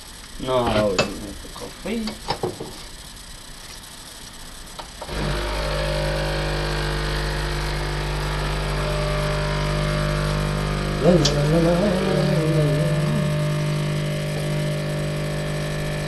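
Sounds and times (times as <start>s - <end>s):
coffee machine pump humming: 0.0s - 16.0s.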